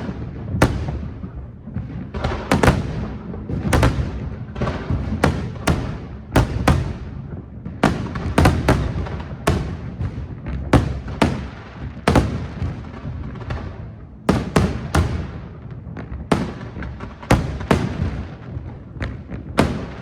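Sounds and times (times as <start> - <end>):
continuous low rumble: 0.0 - 20.0.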